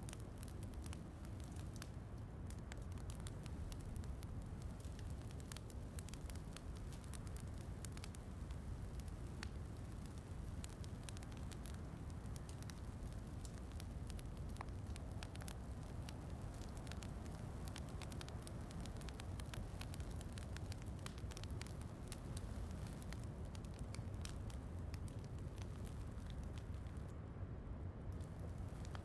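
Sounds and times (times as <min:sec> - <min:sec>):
wood fire crackling: 0:00.0 - 0:27.3, 0:28.0 - 0:29.0.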